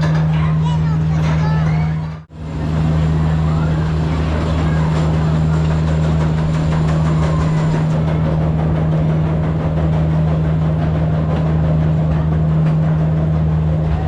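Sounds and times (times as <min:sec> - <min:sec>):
train engine humming: 0:00.0 - 0:14.0.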